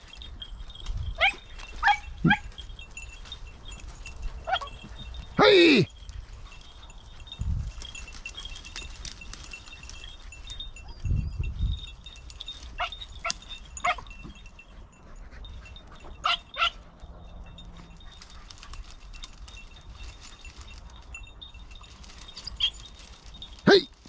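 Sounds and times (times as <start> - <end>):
dogs yelping: 0.0 - 11.1, 12.0 - 23.8
collar bells jingling: 0.0 - 24.0.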